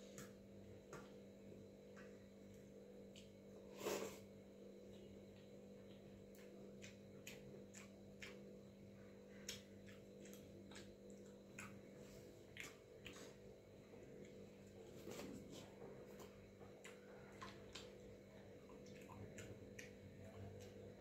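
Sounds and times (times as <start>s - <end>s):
steady low hum: 0.0s - 21.0s
person eating wet rice by hand: 1.9s - 21.0s.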